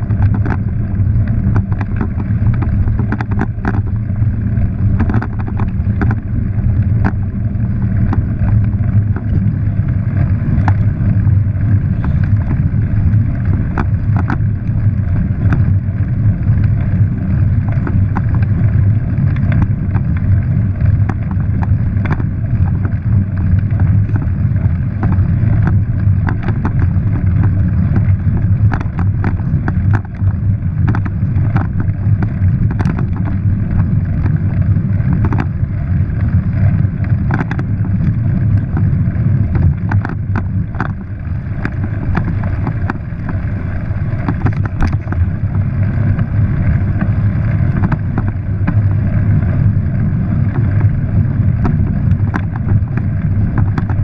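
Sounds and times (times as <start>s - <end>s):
bicycle tyres rumbling on dirt: 0.0s - 54.0s
bike knocking and rattling: 0.0s - 54.0s
wind buffeting microphone: 0.0s - 54.0s.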